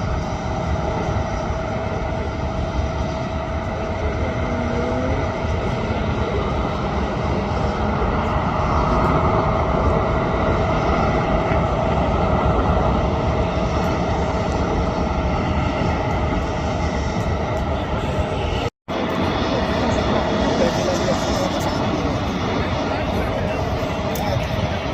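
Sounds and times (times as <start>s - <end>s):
jet engines roaring with whine: 0.0s - 24.9s.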